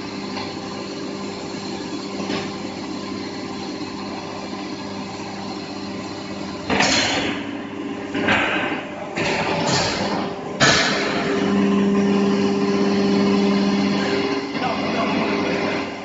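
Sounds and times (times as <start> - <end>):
hydraulic pump humming: 0.0 - 16.0.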